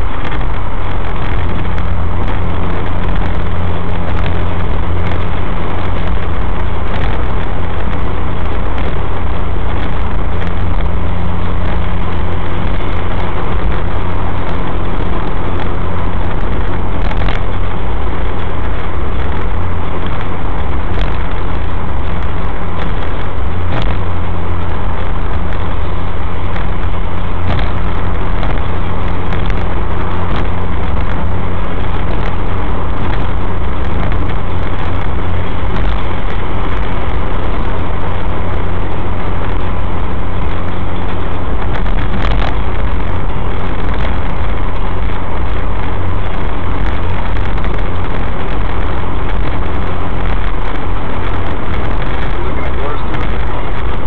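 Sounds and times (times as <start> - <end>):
car engine drone in cabin: 0.0 - 54.0
tyre and road noise: 0.0 - 54.0.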